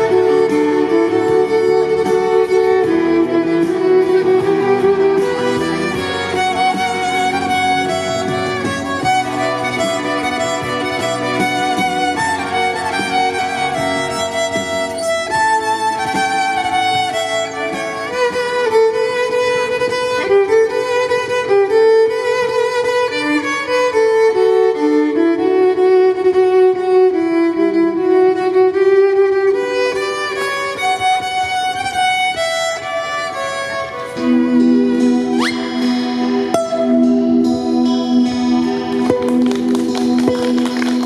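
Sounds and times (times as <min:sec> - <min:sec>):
violin melody through loudspeaker: 0:00.0 - 0:41.0.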